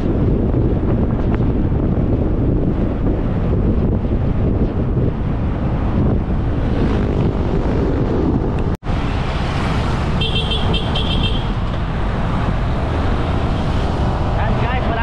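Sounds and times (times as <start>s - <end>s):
moving vehicle rumble: 0.0s - 15.0s.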